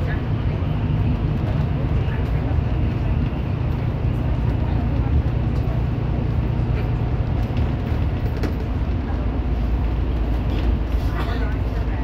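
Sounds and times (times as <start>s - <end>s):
vehicle cabin road rumble: 0.0s - 12.0s.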